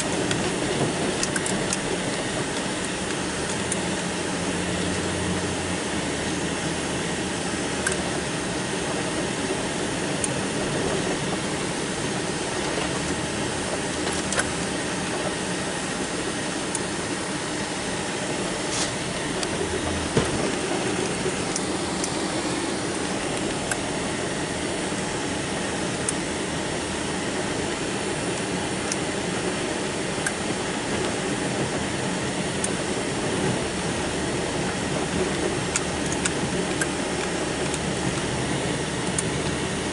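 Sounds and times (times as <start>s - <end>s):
riding lawn tractor engine running: 0.0s - 39.9s.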